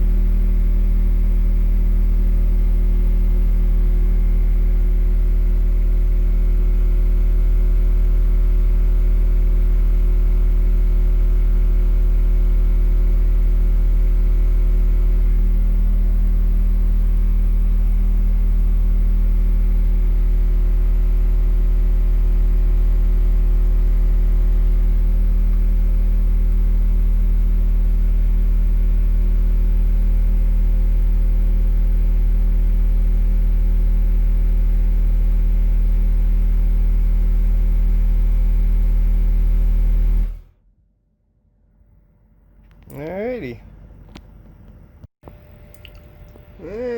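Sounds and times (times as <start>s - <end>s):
deep subwoofer test tone hum: 0.0s - 40.3s.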